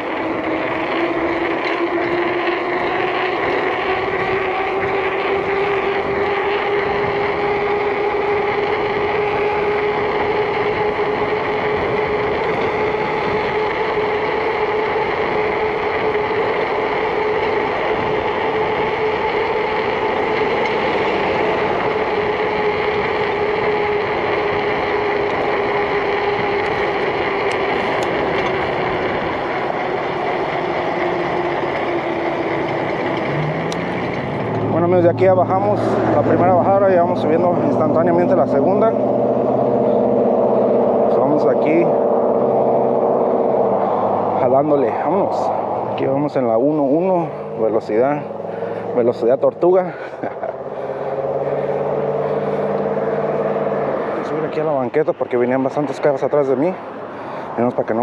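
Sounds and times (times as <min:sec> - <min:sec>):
bike tyres humming on road: 0:00.0 - 0:58.0
wind rushing on microphone: 0:02.0 - 0:58.0.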